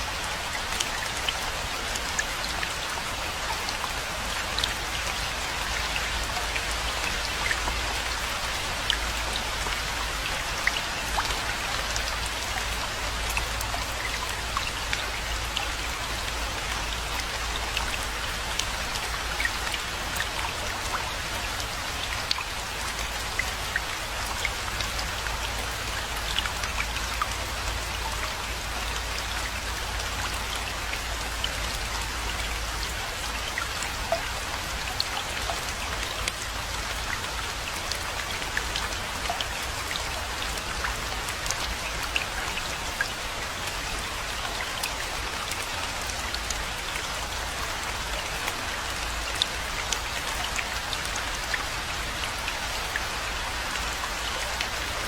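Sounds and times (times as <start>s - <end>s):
rain drops falling: 0.0s - 55.0s.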